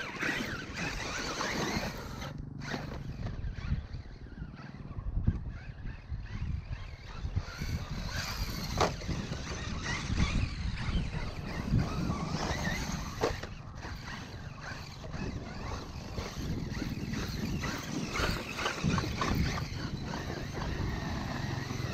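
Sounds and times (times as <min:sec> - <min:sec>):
electric motor whining: 0:00.0 - 0:21.9.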